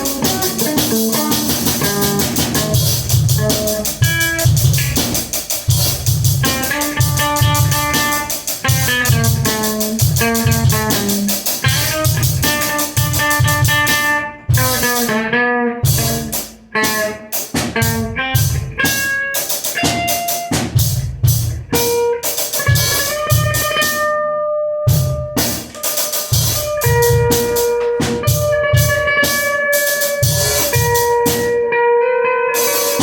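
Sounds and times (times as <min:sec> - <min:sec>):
drum kit kick and snare: 0:00.0 - 0:24.3, 0:24.9 - 0:31.8, 0:32.6 - 0:33.0
electric guitar notes: 0:00.0 - 0:33.0.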